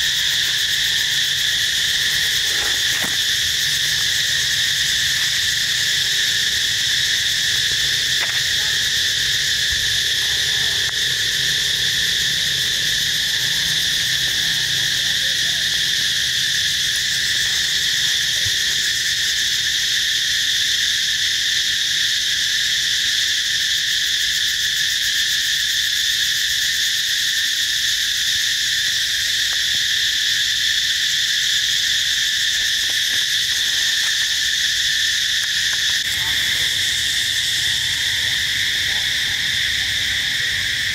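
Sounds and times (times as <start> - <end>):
insect chorus buzzing: 0.0 - 40.9.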